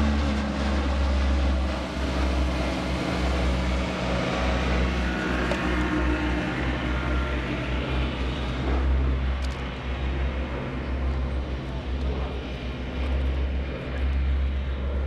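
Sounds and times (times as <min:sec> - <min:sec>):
turboprop aircraft flying past: 0:00.0 - 0:15.0.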